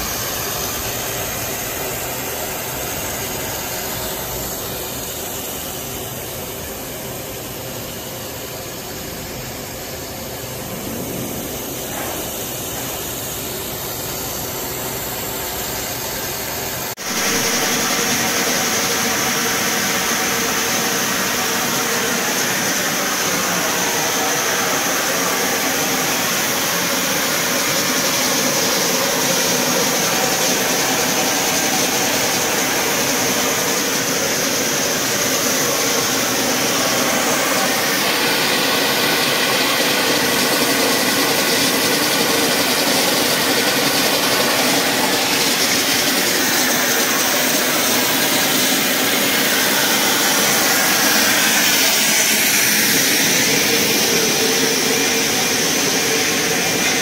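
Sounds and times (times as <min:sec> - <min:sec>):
whirring machinery: 0:00.0 - 0:57.0.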